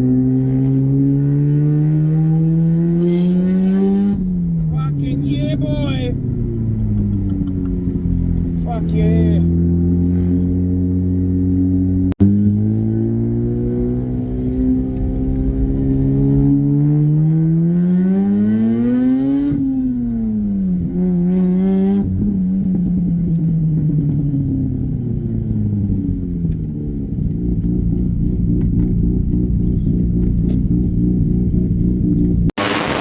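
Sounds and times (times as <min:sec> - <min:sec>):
rotary engine revving: 0:00.0 - 0:22.3, 0:24.0 - 0:33.0.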